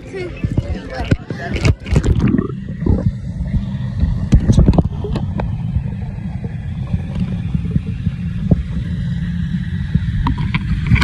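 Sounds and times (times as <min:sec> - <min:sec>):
underwater rumble of pool water: 0:00.0 - 0:11.0.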